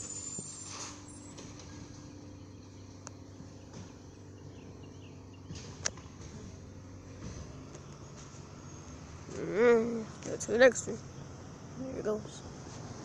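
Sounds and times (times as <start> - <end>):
garbage truck diesel engine: 0.0 - 13.0.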